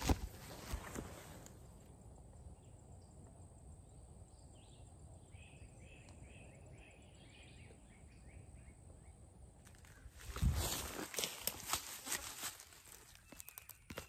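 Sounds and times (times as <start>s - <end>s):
songbird chirping: 0.1s - 14.0s.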